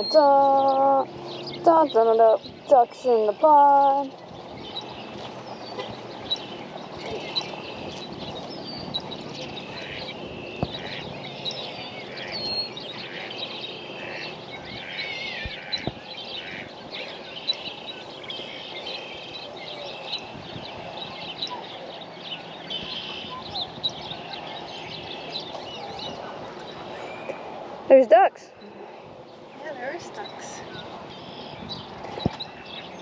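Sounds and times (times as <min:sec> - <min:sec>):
birds chirping and twittering: 0:00.0 - 0:33.0
outdoor background noise: 0:00.0 - 0:33.0.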